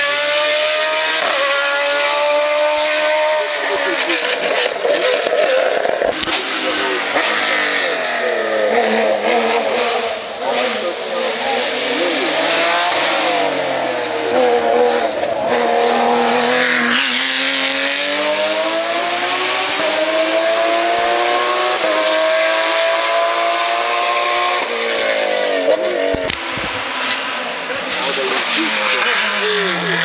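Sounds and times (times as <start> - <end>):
race car engine at full throttle: 0.0 - 30.0.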